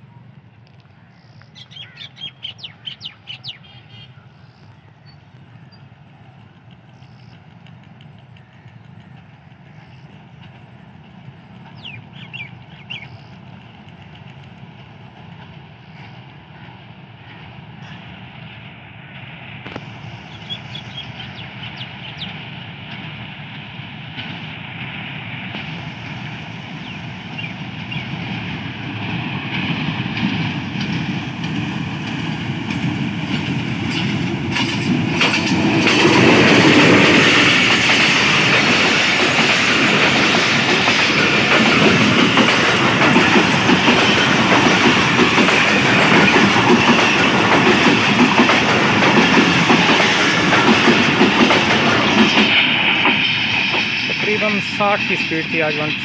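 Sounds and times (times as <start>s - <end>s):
diesel locomotives passing: 0.0s - 56.0s
train wheels clattering on track: 4.4s - 56.0s.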